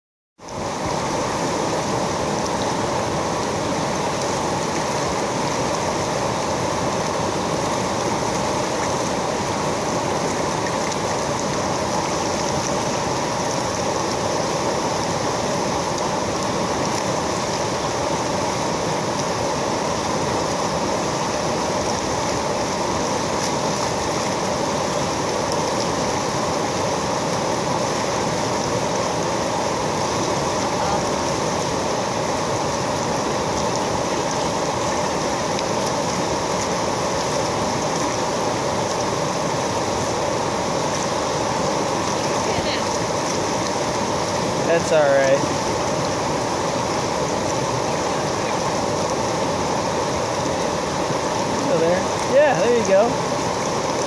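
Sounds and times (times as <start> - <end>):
whitewater rushing over boulders: 0.4 - 54.0.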